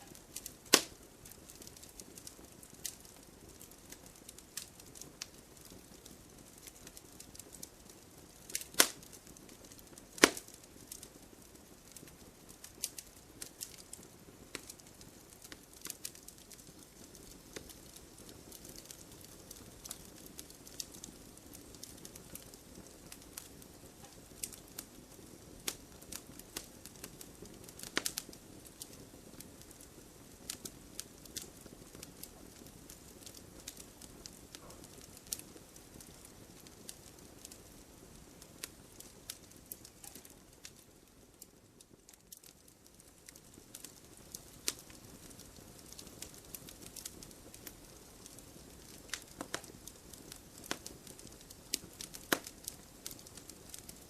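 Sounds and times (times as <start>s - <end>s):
soft steady hiss: 0.0s - 54.0s
wood fire crackling and popping: 0.0s - 54.0s.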